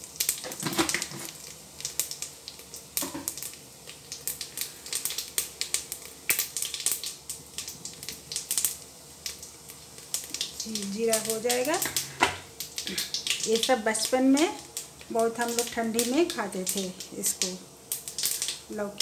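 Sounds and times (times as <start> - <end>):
seeds crackling in hot oil: 0.0 - 19.0.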